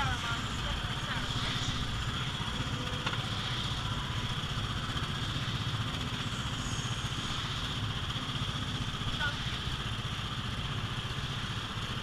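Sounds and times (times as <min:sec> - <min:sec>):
constant high hiss: 0:00.0 - 0:12.0.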